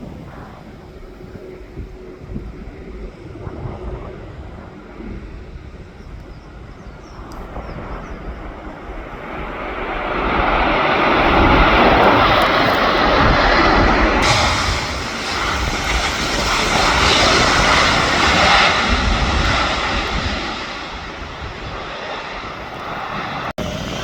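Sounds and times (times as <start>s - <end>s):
airliner engines: 0.0s - 24.0s
wind rumbling on microphone: 0.0s - 24.0s.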